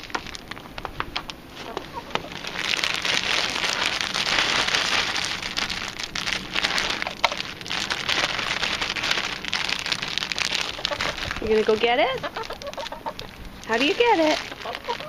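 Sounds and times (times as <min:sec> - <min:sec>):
plastic bag crinkling and rustling: 0:00.0 - 0:15.0.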